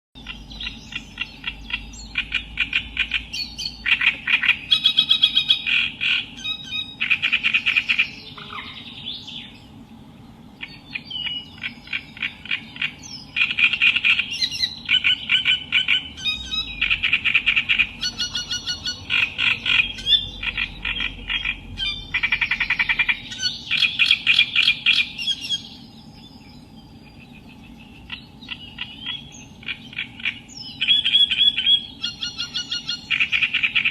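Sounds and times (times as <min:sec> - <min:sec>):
warbler singing harsh chattering notes: 0:00.2 - 0:33.9.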